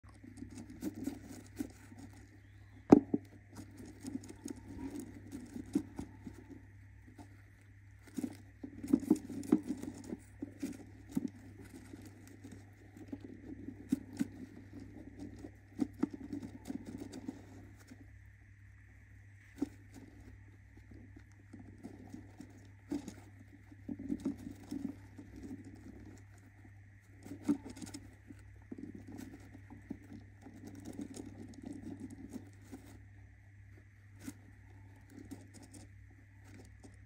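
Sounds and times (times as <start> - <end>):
faint steady hum: 0.0 - 37.0
bird scratching in nest box: 0.1 - 18.1, 19.4 - 37.0.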